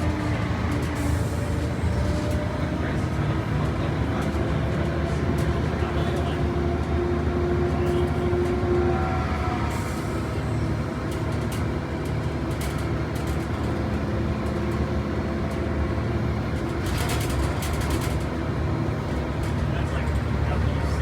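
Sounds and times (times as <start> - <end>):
bus engine drone: 0.0 - 21.0.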